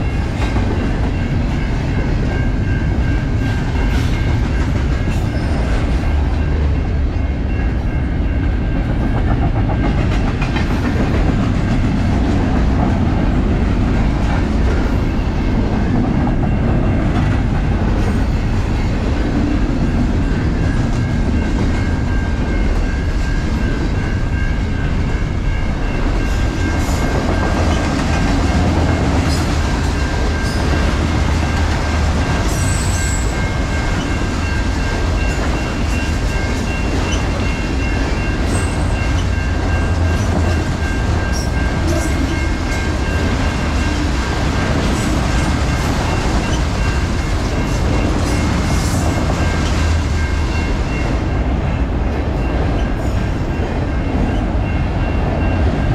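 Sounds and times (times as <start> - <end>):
train wheels clickety-clack: 0.0 - 55.9.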